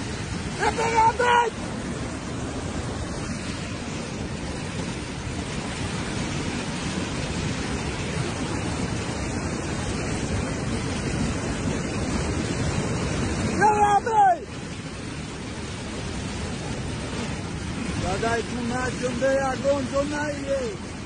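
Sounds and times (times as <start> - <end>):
mudflow rushing roar: 0.0 - 21.0.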